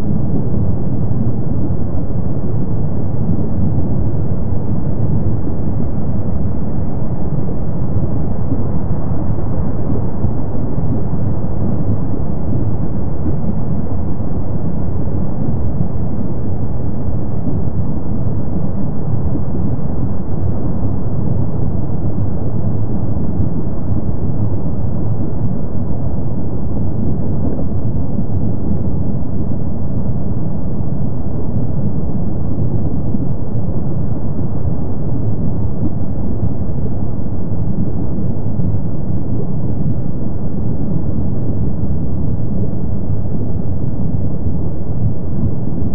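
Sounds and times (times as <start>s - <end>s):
lava low rumble: 0.0s - 45.9s.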